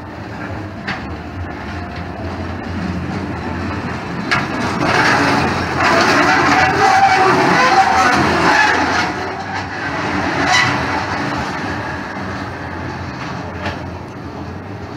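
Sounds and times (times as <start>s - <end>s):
miniature railway locomotive running: 0.0s - 14.9s.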